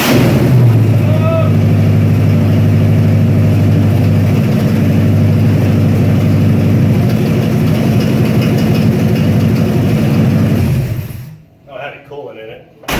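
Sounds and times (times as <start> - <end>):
truck engine running: 0.0 - 11.4.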